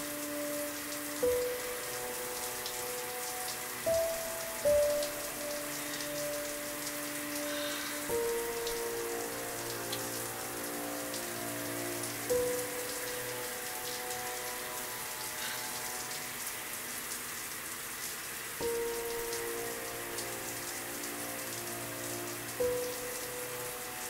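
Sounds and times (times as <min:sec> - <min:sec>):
slow held musical chords: 0:00.0 - 0:17.7, 0:18.5 - 0:24.0
steady rain: 0:00.0 - 0:24.0.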